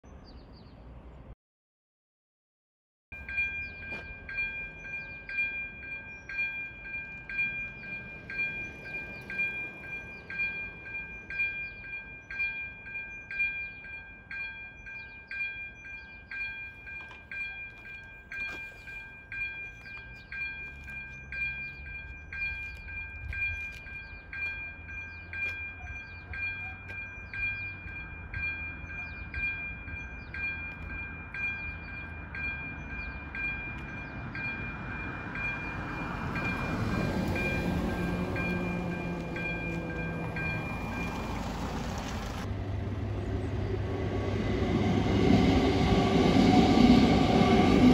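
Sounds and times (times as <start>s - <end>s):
level crossing bell ringing: 3.2s - 41.6s.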